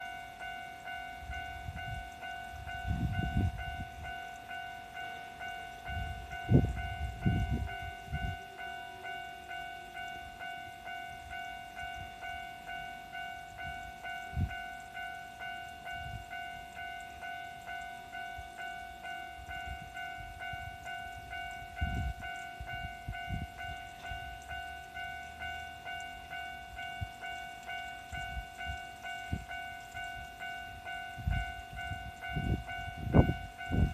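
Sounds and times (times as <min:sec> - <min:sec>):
crossing warning bell dinging: 0:00.0 - 0:33.9.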